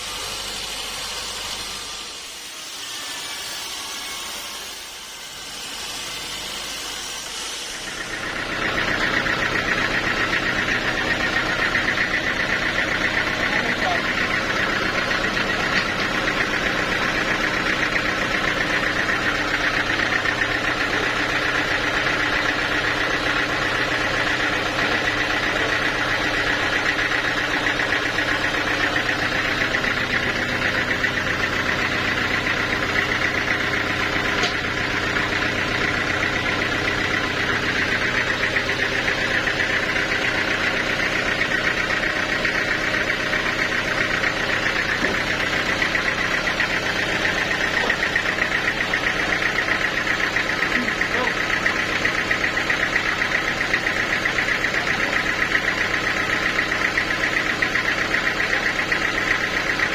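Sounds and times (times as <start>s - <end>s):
sawmill machinery drone and whine: 0.0s - 59.9s.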